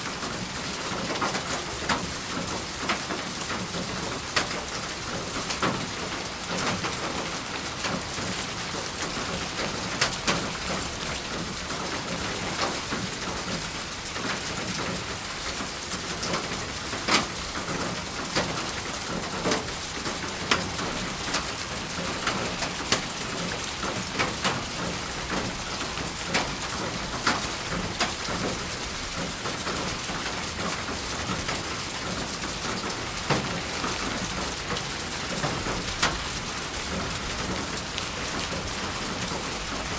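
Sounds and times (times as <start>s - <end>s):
steady rain falling: 0.0s - 39.9s
raindrops tapping close by: 0.1s - 39.9s.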